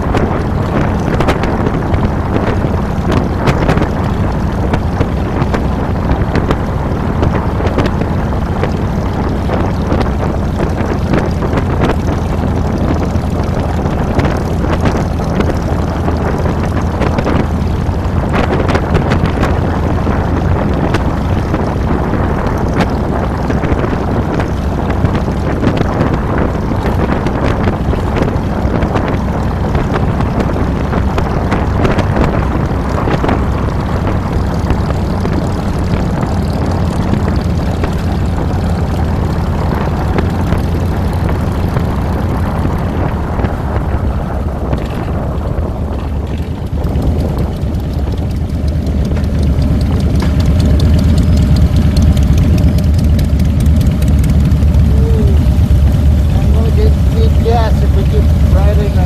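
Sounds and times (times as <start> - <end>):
motorcycle exhaust drone: 0.0 - 59.0
wind rush on microphone: 0.0 - 59.0.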